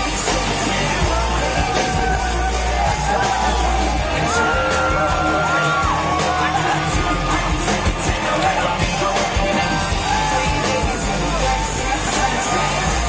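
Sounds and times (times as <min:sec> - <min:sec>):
heavy bass beat: 0:00.0 - 0:13.0
live electropop band: 0:00.0 - 0:13.0
person singing: 0:00.0 - 0:13.0.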